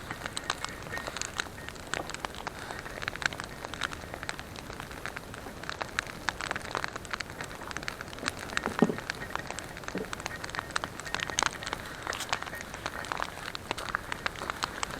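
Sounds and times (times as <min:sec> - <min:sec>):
campfire crackling: 0:00.0 - 0:14.9.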